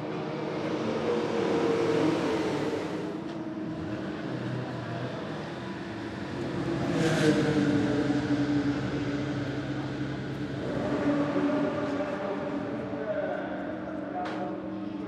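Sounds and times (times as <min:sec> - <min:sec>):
race car engine idling and revving: 0:00.0 - 0:15.0.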